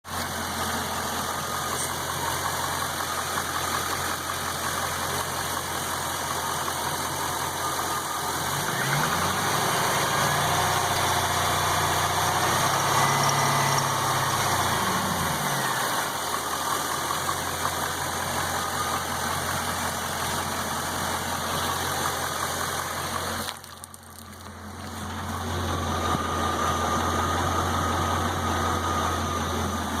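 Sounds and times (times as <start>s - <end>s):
car engine idling with knock: 0.0s - 9.2s, 13.8s - 30.0s
engine revving: 0.1s - 23.5s, 24.6s - 30.0s.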